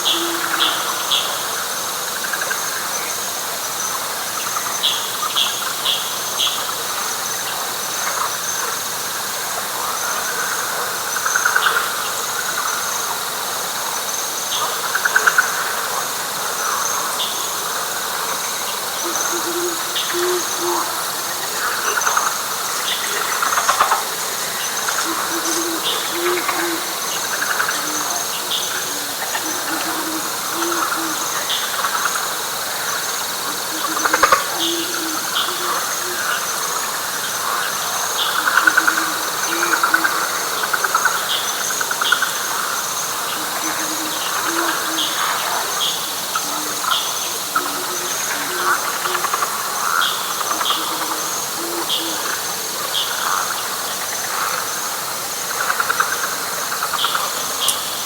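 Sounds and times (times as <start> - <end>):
chattering frog chorus: 0.0 - 58.0
high insect trill: 0.0 - 58.0.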